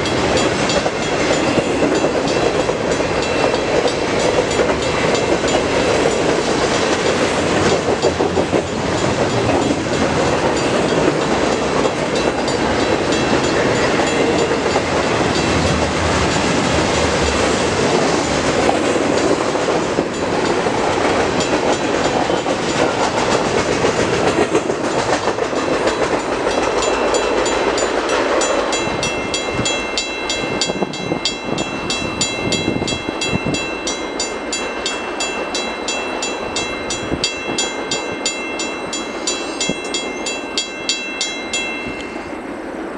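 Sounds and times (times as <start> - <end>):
wheels clicking over rail joints: 0.0 - 42.2
freight train rolling past: 0.0 - 42.9.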